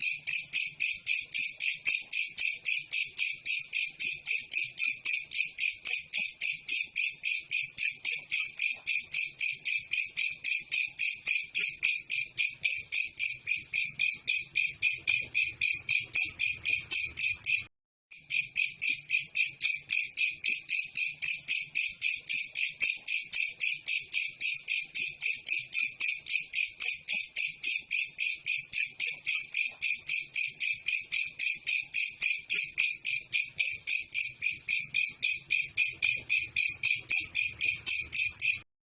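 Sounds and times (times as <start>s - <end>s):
insect chirping rapidly: 0.0s - 38.6s.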